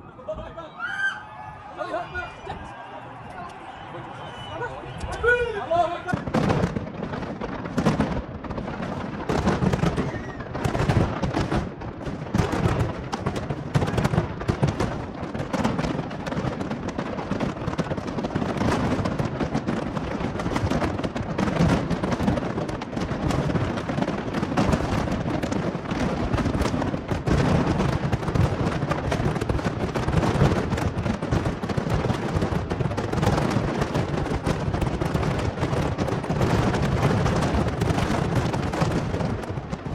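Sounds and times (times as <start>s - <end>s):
fireworks bangs and crackling: 1.3s - 39.9s.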